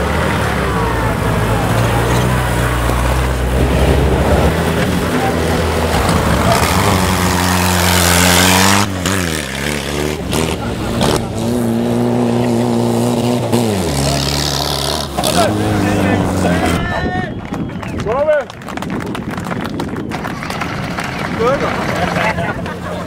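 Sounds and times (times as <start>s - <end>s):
hot rod engines revving: 0.0s - 17.1s, 20.1s - 23.0s.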